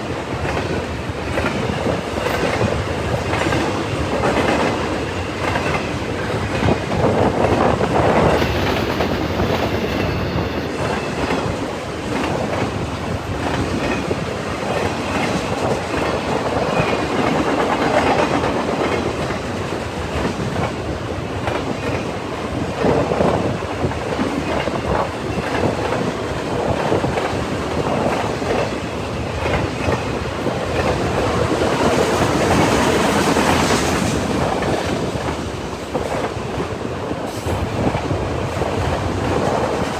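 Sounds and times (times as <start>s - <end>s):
freight train wheels rolling on rails: 0.0s - 39.9s.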